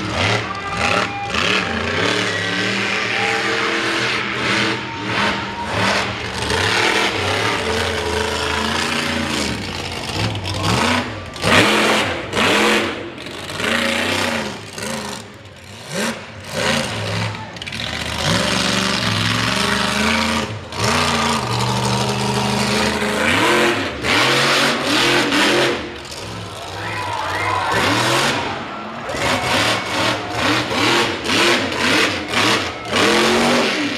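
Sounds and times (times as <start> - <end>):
truck engine revving: 0.0 - 33.9.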